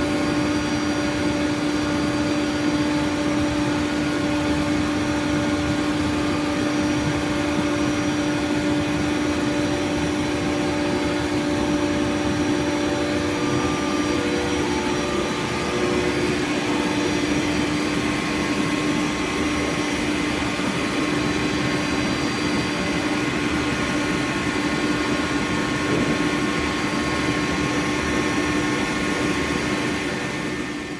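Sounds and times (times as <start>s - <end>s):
milling machine whine and rush: 0.0s - 30.9s.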